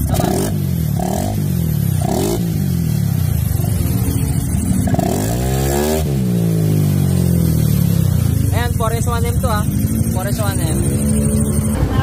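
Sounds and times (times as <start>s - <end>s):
scooter engine idling and revving: 0.0s - 12.0s.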